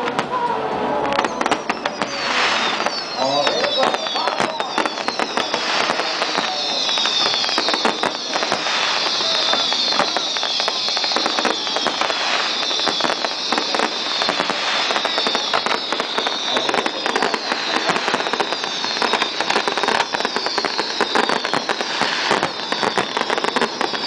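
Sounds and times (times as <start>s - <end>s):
fireworks crackling and popping: 0.0s - 24.0s
descending whistle: 1.2s - 24.0s.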